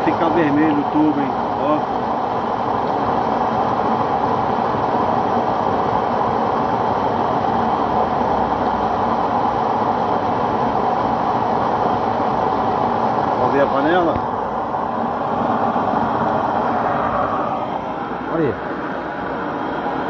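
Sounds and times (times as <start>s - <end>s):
stove burner flame rushing: 0.0s - 20.0s.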